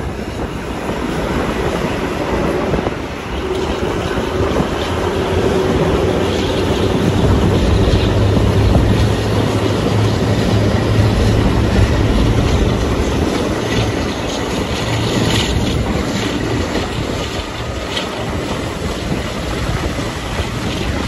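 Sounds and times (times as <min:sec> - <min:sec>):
diesel locomotive engine running: 0:00.0 - 0:21.0
wheels clicking over rail joints: 0:00.0 - 0:21.0.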